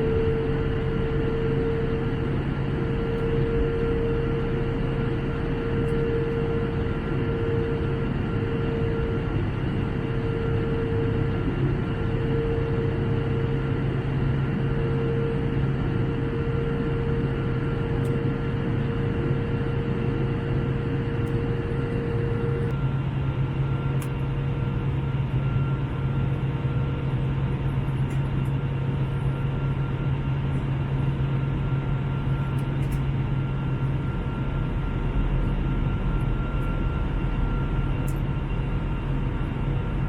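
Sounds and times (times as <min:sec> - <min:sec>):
airliner cabin drone: 0:00.0 - 0:40.0
faint mid-pitched whine: 0:00.0 - 0:40.0.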